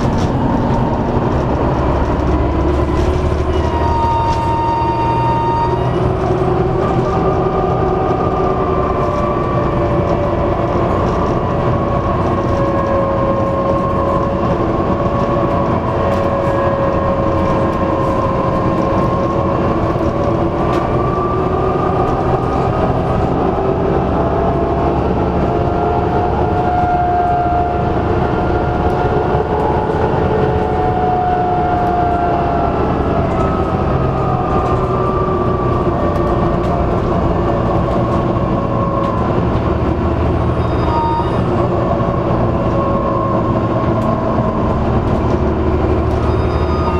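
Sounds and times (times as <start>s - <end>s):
bus engine rumble: 0.0s - 46.9s.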